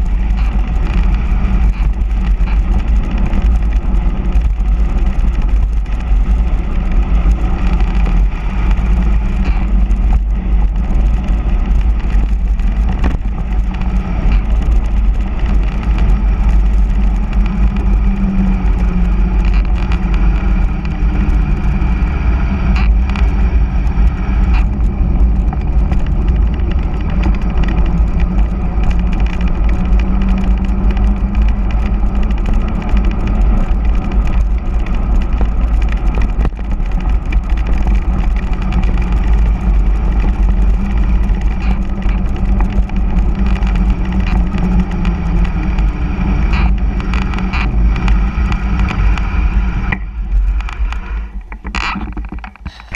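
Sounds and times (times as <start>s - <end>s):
tyres humming on asphalt: 0.0s - 52.9s
wind buffeting microphone: 0.0s - 52.9s.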